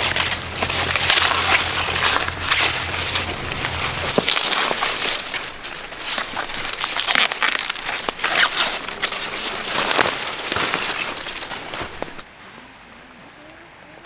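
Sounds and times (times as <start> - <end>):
dry corn leaves rustling: 0.0 - 12.3.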